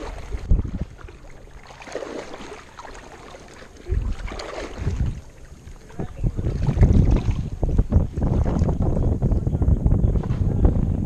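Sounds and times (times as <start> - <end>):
wind buffeting microphone: 0.0 - 2.6, 3.7 - 11.0
boat noise: 0.0 - 11.0
water: 0.0 - 11.0.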